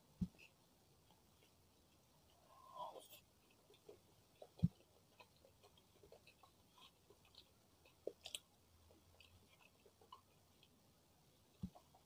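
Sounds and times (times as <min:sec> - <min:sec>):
faint chewing: 0:00.2 - 0:12.0.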